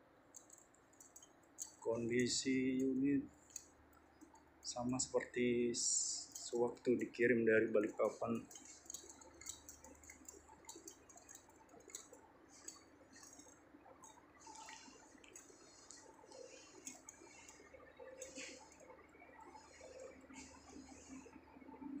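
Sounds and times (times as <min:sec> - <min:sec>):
faint low hum: 0:00.0 - 0:22.0
light ticks and clicks: 0:00.3 - 0:21.9.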